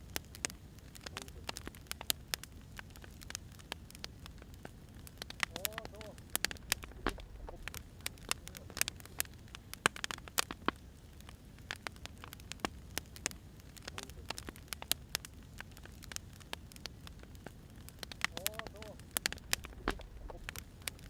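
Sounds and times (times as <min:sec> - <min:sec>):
fire low hiss: 0:00.0 - 0:21.0
firewood crackling and popping: 0:00.0 - 0:21.0.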